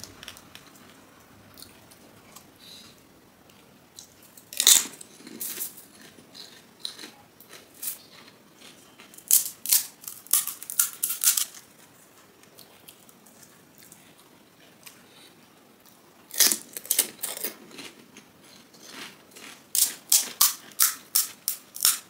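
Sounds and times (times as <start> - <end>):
crunching of fried shells: 0.0 - 15.2, 15.8 - 22.0.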